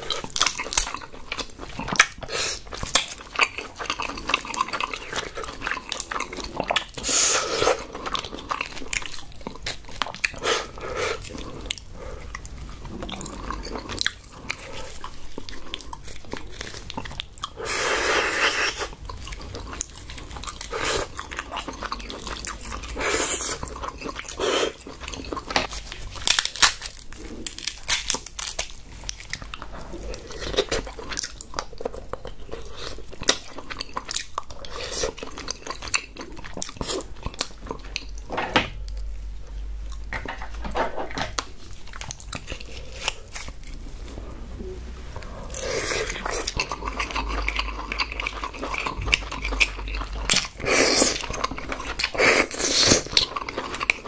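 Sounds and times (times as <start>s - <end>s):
person chewing crab: 0.0s - 40.4s, 41.4s - 54.0s.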